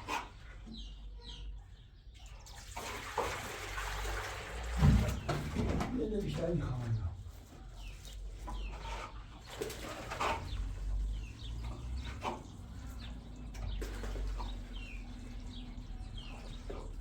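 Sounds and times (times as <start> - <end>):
birds chirping: 0.0 - 2.5, 4.9 - 17.0.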